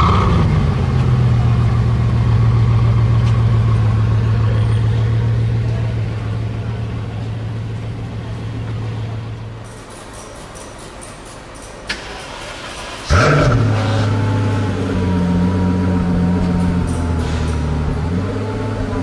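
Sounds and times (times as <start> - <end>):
car engine starting and idling: 0.0 - 9.8, 11.8 - 19.0.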